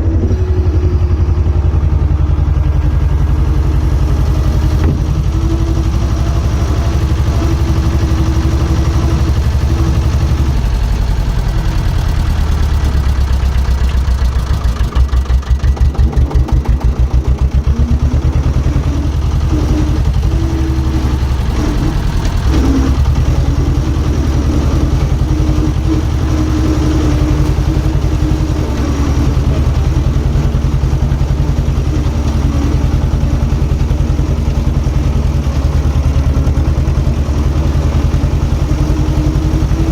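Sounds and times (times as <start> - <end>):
diesel engine running: 0.0 - 39.9
rhythmic engine throb: 0.0 - 39.9.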